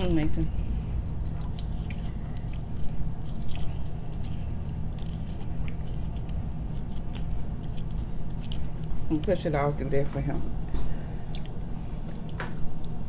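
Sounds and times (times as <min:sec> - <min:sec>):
people chewing food: 0:00.0 - 0:09.8, 0:10.5 - 0:13.0
steady low hum: 0:00.0 - 0:13.0.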